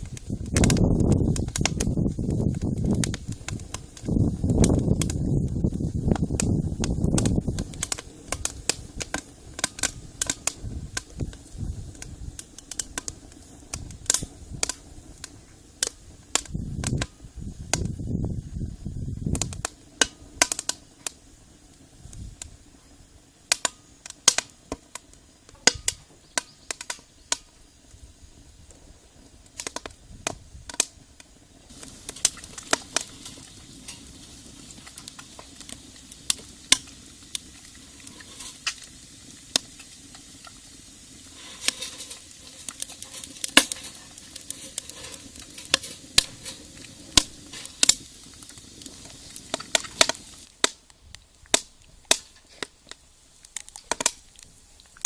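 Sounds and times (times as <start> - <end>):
frying sizzle in a pan: 0.0 - 50.8
wood fire crackling and popping: 0.0 - 55.0.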